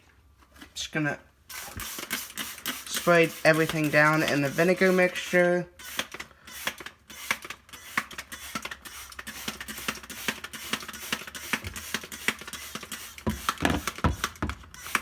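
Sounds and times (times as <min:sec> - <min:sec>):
spray bottle squirting: 0:01.5 - 0:15.0.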